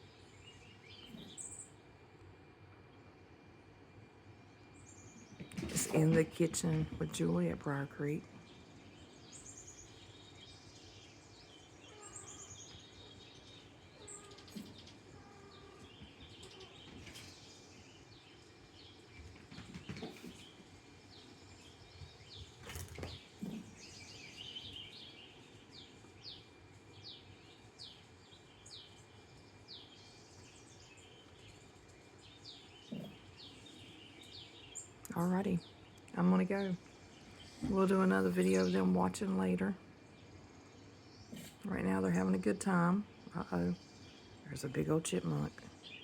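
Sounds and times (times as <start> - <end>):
small songbirds chirping: 0.0 - 2.0, 2.8 - 46.0.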